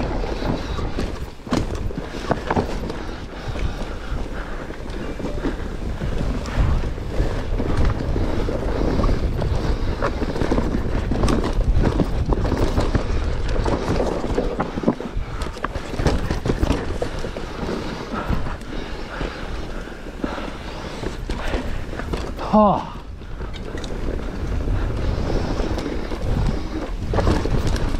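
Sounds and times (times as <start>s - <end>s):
bike knocking and rattling: 0.0s - 27.9s
bike tyres crunching over stone: 0.0s - 27.9s
wind on microphone: 0.0s - 27.9s.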